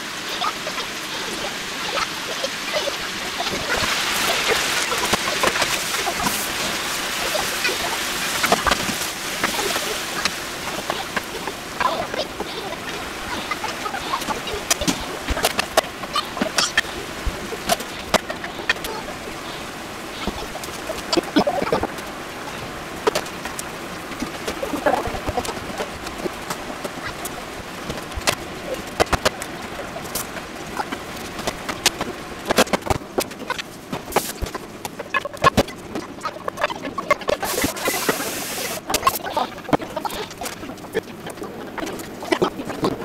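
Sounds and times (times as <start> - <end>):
food sizzling in pans: 0.0 - 32.7, 36.5 - 43.0.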